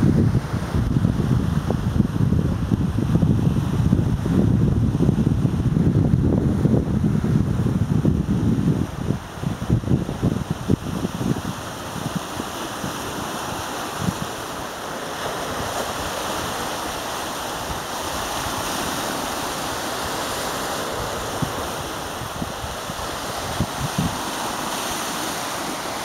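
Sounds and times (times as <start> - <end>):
waves breaking on rocky shore: 0.0 - 26.0
wind bumps on microphone: 0.0 - 26.0.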